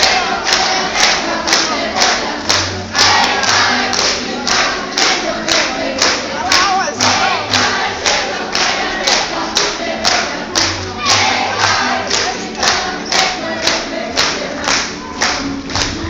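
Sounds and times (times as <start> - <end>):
group singing folk song: 0.0 - 16.0.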